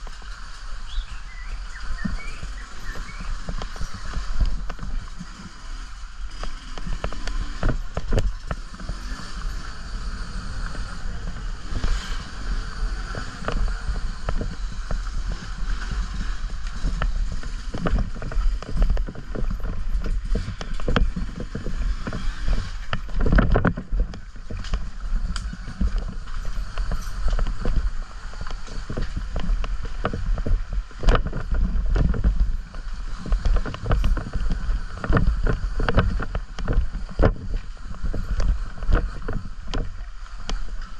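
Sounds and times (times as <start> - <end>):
low rumble of off-road bike: 0.0 - 40.9
wind rushing over microphone: 0.0 - 40.9.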